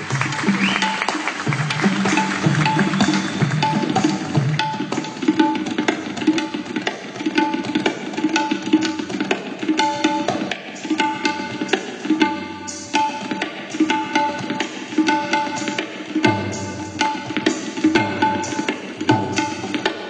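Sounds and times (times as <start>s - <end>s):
tabla fast strokes: 0.0s - 20.0s.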